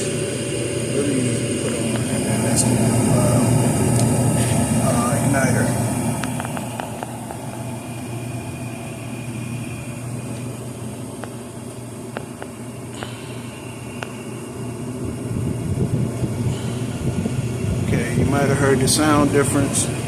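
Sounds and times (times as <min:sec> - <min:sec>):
blower air rush: 0:00.0 - 0:20.0
furnace fan and burners humming: 0:00.0 - 0:20.0.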